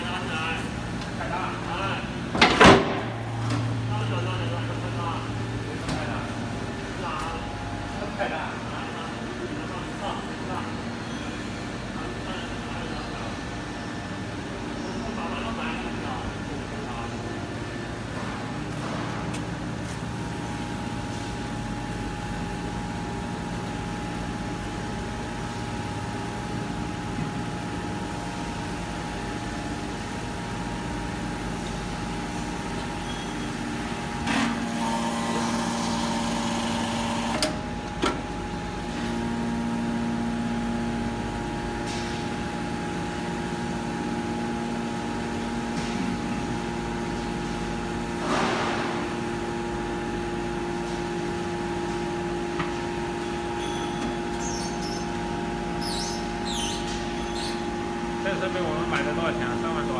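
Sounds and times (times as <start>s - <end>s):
hydraulic power unit humming: 0.0s - 59.9s.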